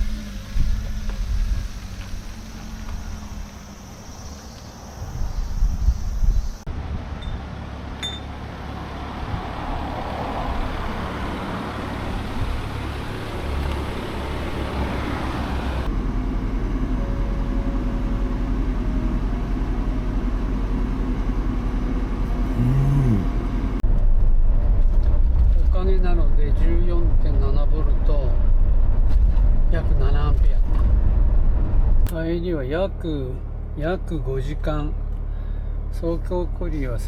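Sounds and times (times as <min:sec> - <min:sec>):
vehicle engine and road noise: 0:00.0 - 0:37.0.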